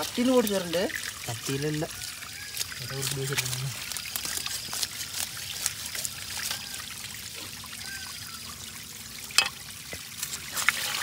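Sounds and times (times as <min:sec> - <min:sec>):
water trickling onto concrete: 0:00.0 - 0:11.0.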